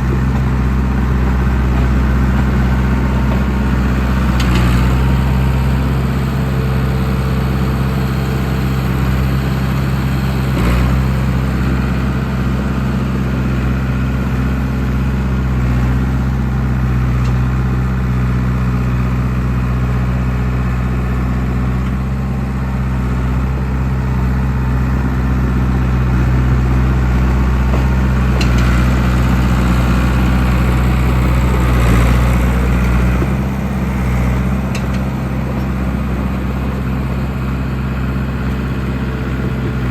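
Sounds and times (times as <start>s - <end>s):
dozer diesel engine running: 0.0s - 39.9s.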